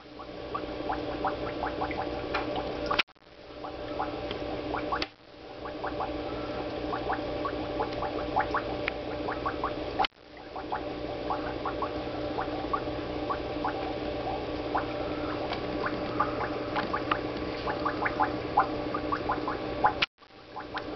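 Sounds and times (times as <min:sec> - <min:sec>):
aquarium filter hum: 0:00.0 - 0:20.9
bubbling and gurgling water: 0:00.0 - 0:20.9.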